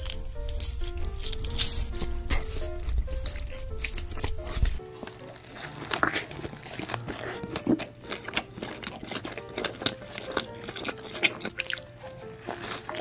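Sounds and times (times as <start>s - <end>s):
chewing and biting burger: 0.0s - 13.0s
light background music: 0.0s - 13.0s.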